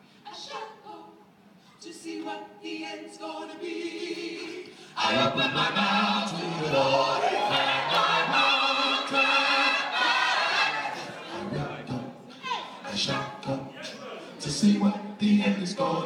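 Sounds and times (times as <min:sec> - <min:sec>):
male vocal group singing: 0:01.8 - 0:16.0.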